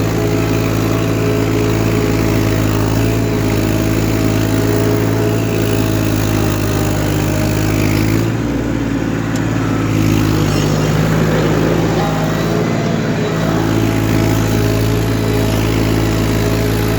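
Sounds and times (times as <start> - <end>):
tractor diesel engine under load: 0.0 - 16.9.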